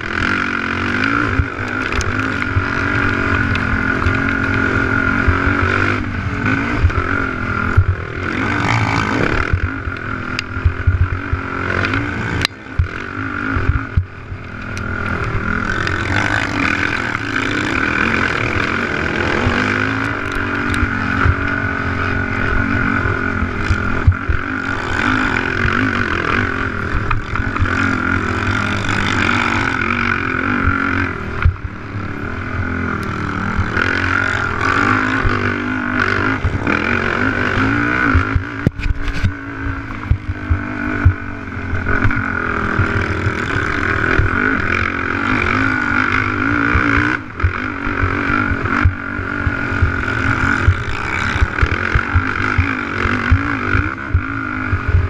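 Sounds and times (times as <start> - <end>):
quad engine running hard: 0.0 - 55.0.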